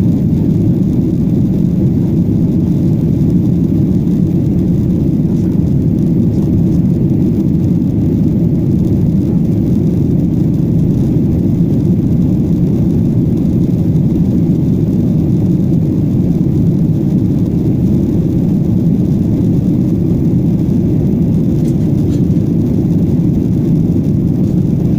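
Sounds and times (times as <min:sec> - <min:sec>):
jet airliner roaring on takeoff: 0:00.0 - 0:24.9.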